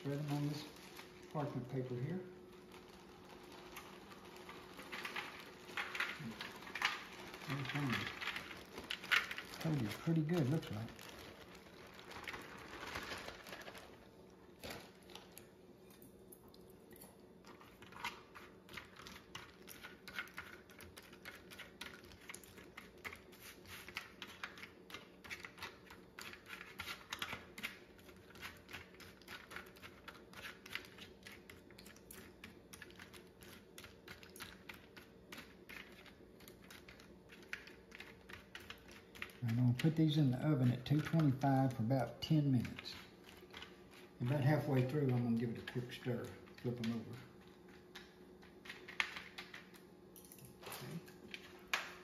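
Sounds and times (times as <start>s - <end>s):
forks tapping crackers and pan: 2.8s - 14.0s, 17.5s - 52.0s.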